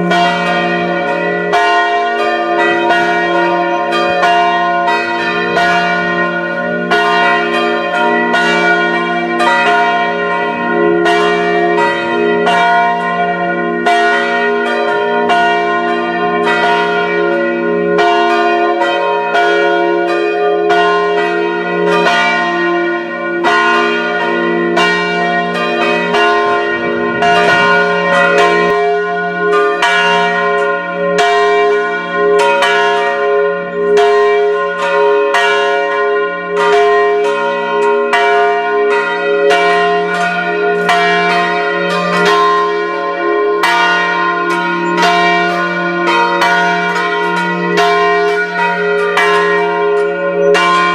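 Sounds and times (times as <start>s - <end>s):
church bells pealing: 0.0s - 50.9s.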